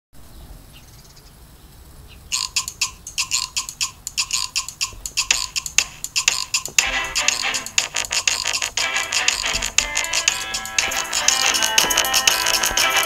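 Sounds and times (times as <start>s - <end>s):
short clicking pulses: 2.4s - 13.0s.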